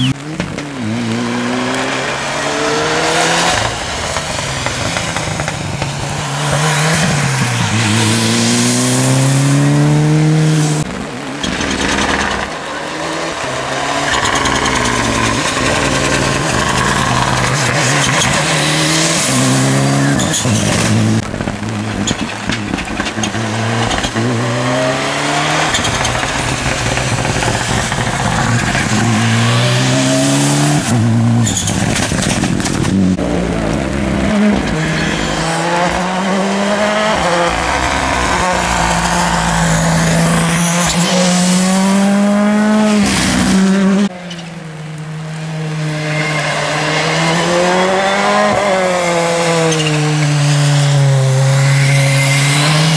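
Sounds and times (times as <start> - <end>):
rally car engines passing: 0.0 - 52.9
tyres hissing on wet road: 0.1 - 52.9.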